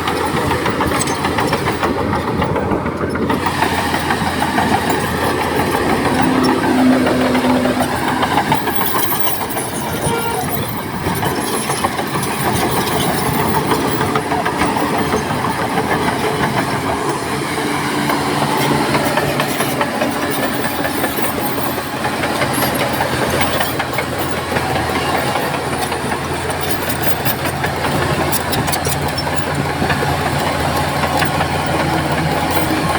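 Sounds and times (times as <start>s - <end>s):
metallic clanking and rattling: 0.0s - 17.3s, 18.1s - 32.9s
heavy diesel machinery running: 0.0s - 32.9s.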